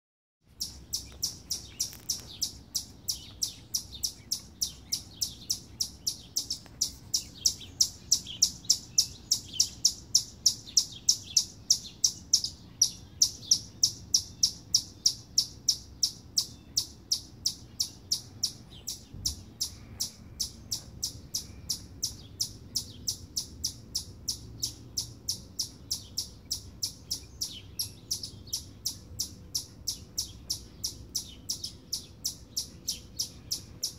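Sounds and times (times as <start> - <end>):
chipmunk alarm chips: 0.5 - 33.9.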